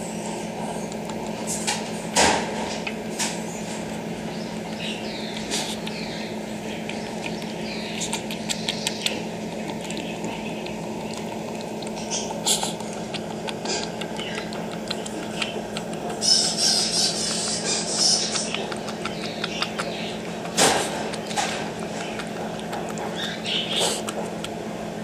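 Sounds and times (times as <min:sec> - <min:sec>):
animal lapping food: 0:00.0 - 0:25.0
steady low hum: 0:00.0 - 0:25.0.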